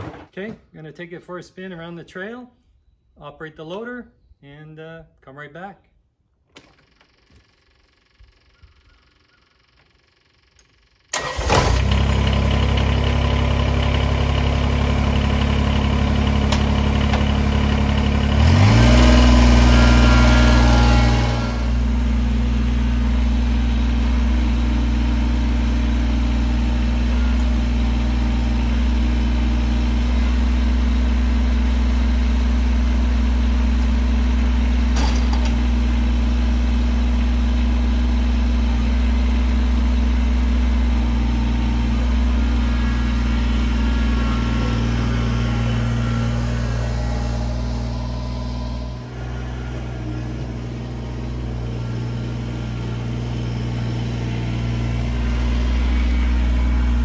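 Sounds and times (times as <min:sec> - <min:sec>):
tractor diesel engine running: 0:06.6 - 0:57.0.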